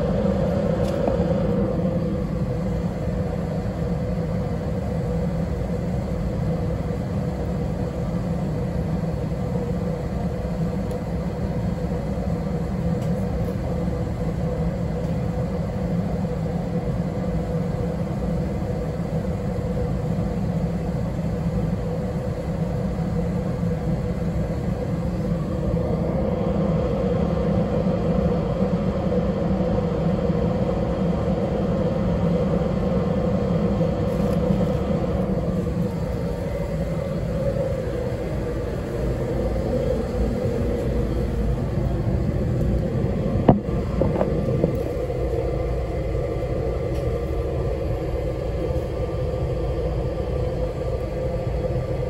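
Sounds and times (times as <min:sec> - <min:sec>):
railcar rumble and hum: 0:00.0 - 0:52.0.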